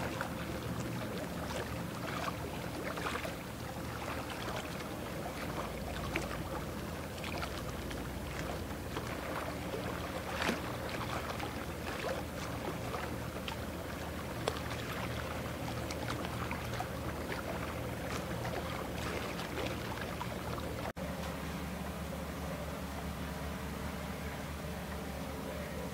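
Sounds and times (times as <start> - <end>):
small clicks and splashes: 0.0 - 21.4
ship diesel engine drone: 0.0 - 25.9
water rushing: 0.0 - 25.9.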